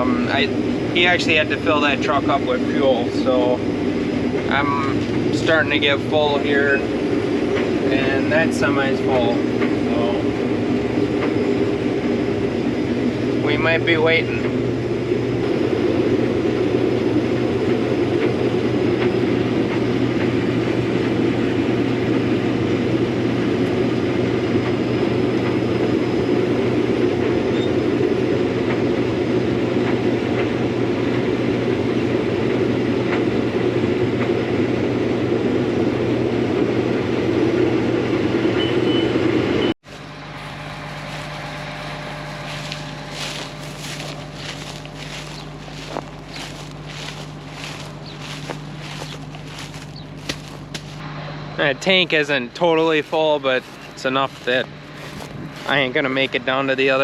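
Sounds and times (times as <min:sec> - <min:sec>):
combine harvester running: 0:00.0 - 0:57.0
low engine hum: 0:00.0 - 0:57.0.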